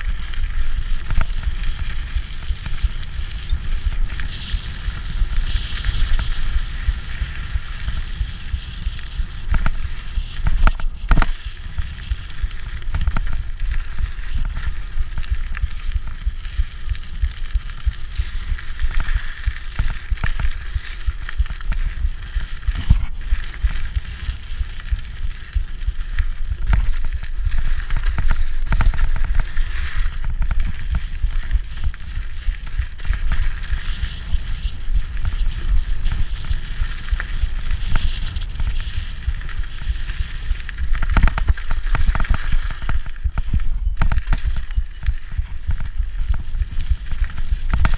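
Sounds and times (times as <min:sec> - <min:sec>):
bike knocking and rattling: 0:00.0 - 0:47.9
bike tyres crunching over dirt: 0:00.0 - 0:47.9
wind buffeting microphone: 0:00.0 - 0:47.9.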